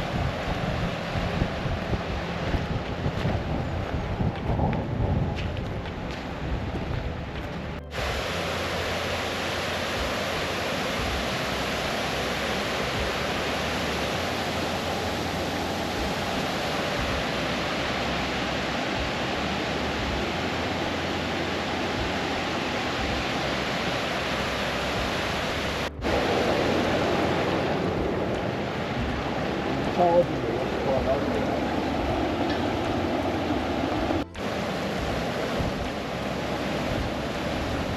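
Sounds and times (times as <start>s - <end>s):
stream water flowing: 0.0s - 37.9s.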